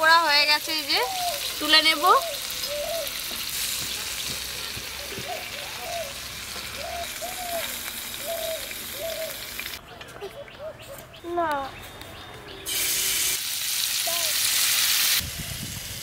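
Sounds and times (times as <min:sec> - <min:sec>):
skewers sizzling in oil: 0:00.0 - 0:09.8, 0:12.7 - 0:16.0.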